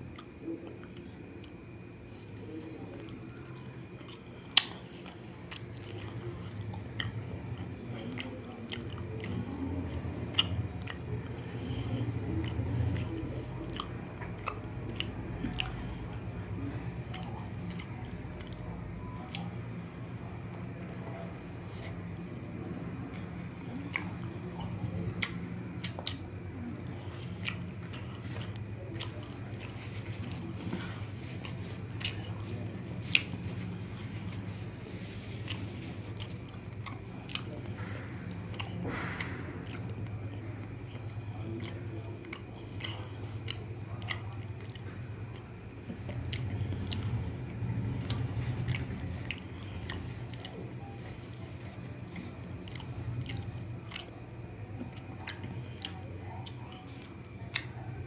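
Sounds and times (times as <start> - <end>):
mouth chewing with lip smacks: 0.0 - 58.0
steady low hum: 0.0 - 58.0.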